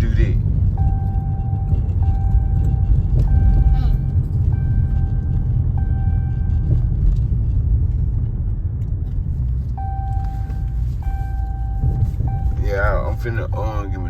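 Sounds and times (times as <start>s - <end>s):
car exhaust rumbling: 0.0s - 14.0s.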